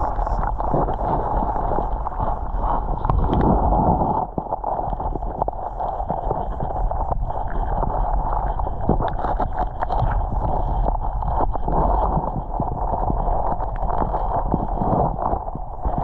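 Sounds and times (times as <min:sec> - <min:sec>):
muffled underwater stream rushing: 0:00.0 - 0:16.0
small underwater clicks and knocks: 0:00.0 - 0:16.0.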